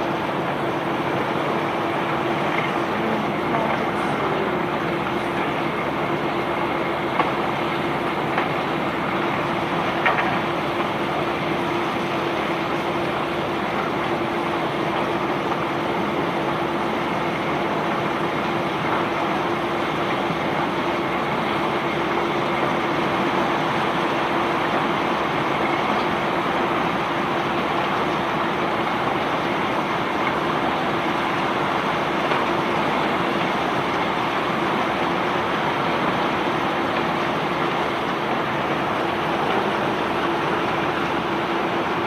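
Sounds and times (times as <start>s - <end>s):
conveyor belt rushing noise: 0.0s - 42.0s
low machinery hum: 0.0s - 42.0s.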